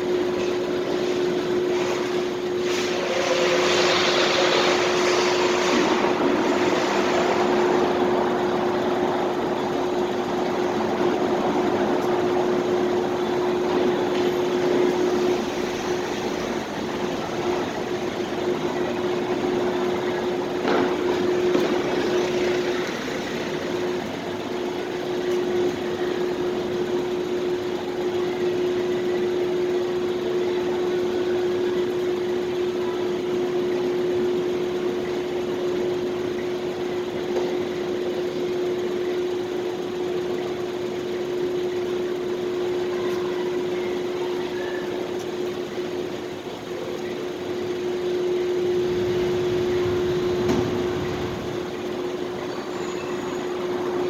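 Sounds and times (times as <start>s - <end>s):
constant hum: 0.0s - 54.0s
parking lot ambience: 0.0s - 54.0s.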